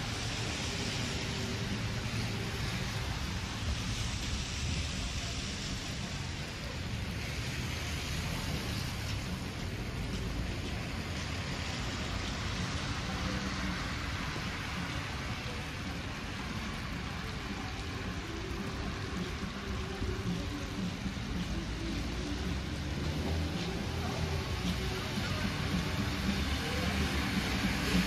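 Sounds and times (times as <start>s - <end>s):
low traffic rumble: 0.0s - 28.0s
tyres hissing on wet pavement: 0.0s - 28.0s.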